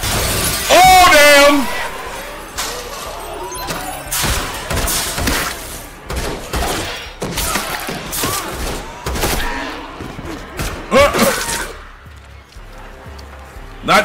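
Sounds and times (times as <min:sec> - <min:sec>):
gunshots: 0:00.0 - 0:11.8
action soundtrack music: 0:00.0 - 0:14.0.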